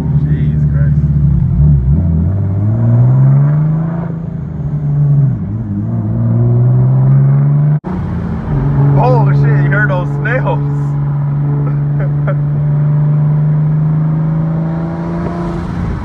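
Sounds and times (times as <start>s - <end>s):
car engine revving inside cabin: 0.0s - 16.0s.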